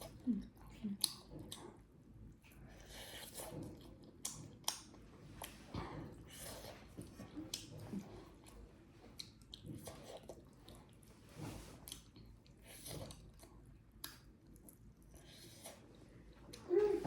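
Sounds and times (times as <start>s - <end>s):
person chewing food: 0.0s - 16.6s.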